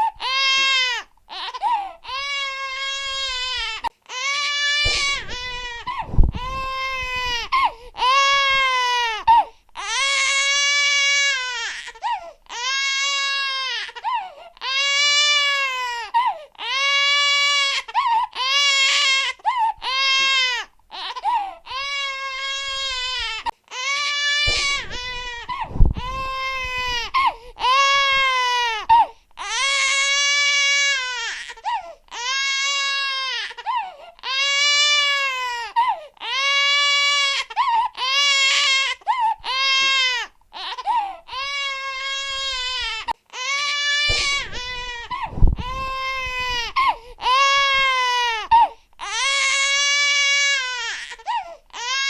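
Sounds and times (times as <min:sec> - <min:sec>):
baby crying: 0:00.0 - 0:52.0.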